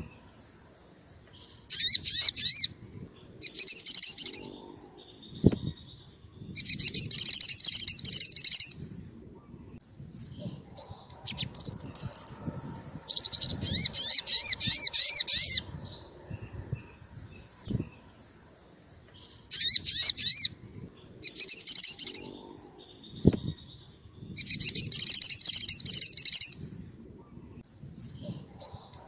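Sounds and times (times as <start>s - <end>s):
bird chirping rapidly: 0.0s - 9.0s, 9.7s - 12.4s, 13.0s - 26.7s.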